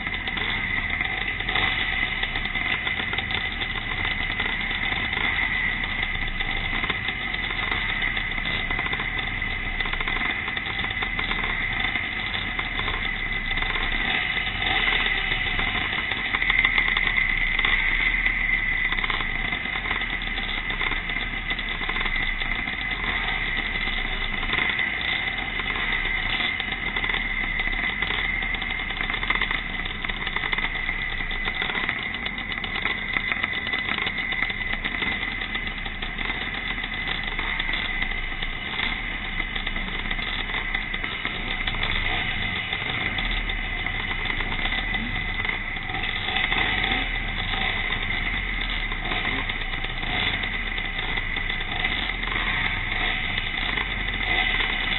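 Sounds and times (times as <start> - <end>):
motocross motorcycle engines racing: 0.0 - 54.9.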